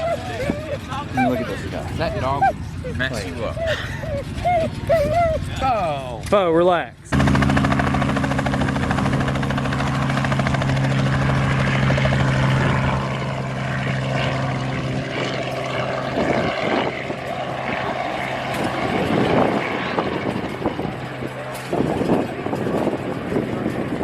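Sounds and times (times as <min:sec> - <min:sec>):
helicopter engine hum: 0:00.0 - 0:06.2, 0:07.0 - 0:24.0
helicopter rotor chop: 0:00.0 - 0:24.0.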